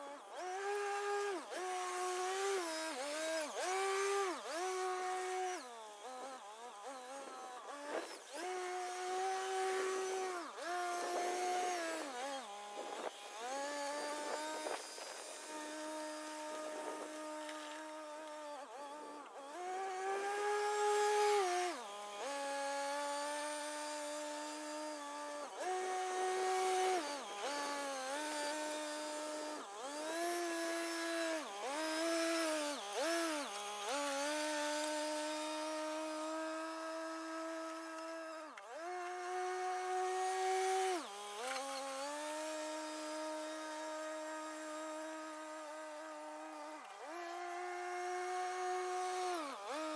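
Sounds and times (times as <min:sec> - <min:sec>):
tractor whining drone: 0:00.0 - 0:49.9.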